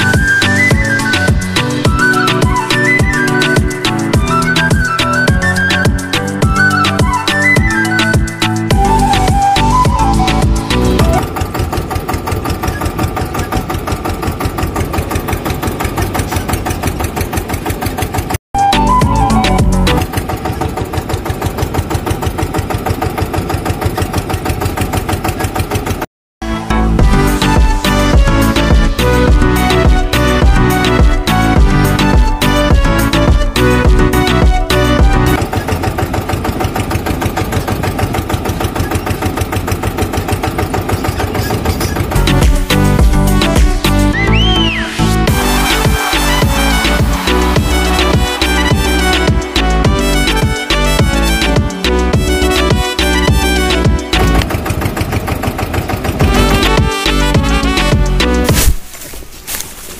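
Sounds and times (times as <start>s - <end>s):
tractor engine idling: 0.0s - 26.1s, 27.0s - 58.5s.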